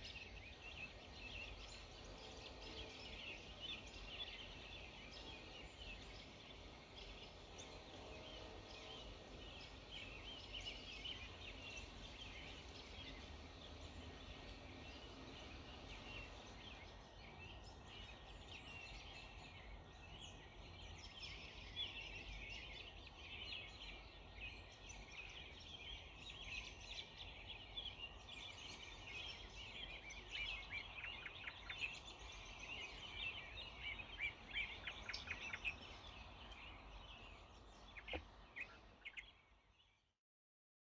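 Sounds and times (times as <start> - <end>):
small birds chirping and singing: 0.0 - 40.1.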